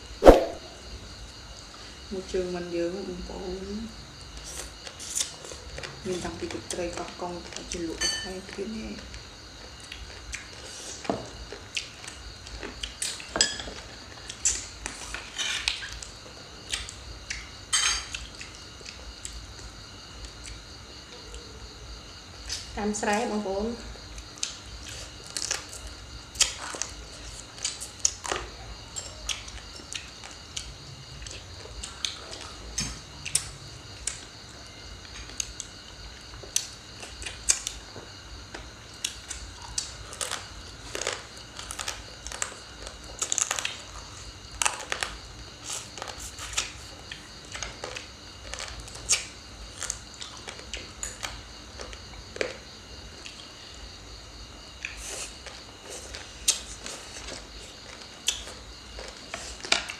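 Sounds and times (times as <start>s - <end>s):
chewing and crunching: 4.2s - 7.8s, 9.3s - 21.5s, 24.0s - 59.9s.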